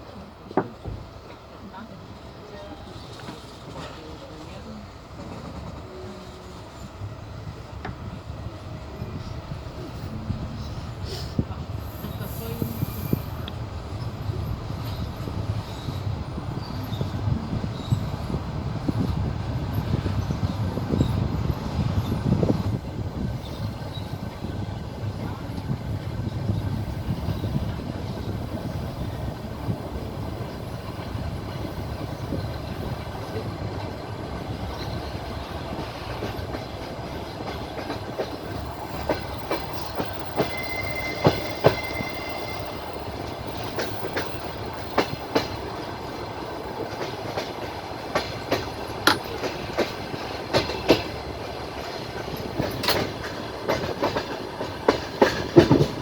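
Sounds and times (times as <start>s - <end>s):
clickety-clack of rail joints: 0.0s - 56.0s
train wheels rumbling on rail: 0.0s - 56.0s.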